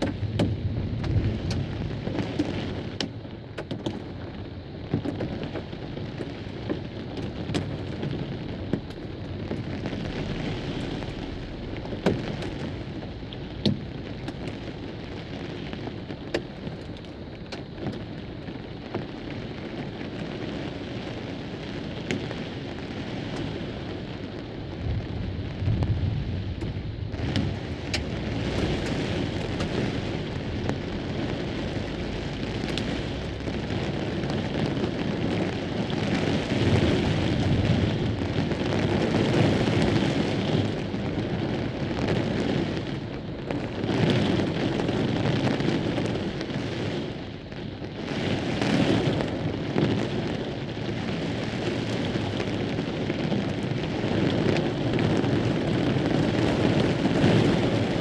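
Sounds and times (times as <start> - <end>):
gusting wind: 0.0 - 58.0
heavy rain: 0.0 - 58.0.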